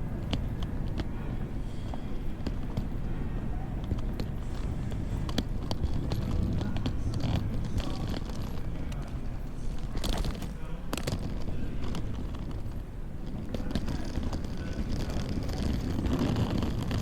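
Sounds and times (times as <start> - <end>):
faint indistinct voices: 0.0 - 17.0
low rumble of terminal hall: 0.0 - 17.0.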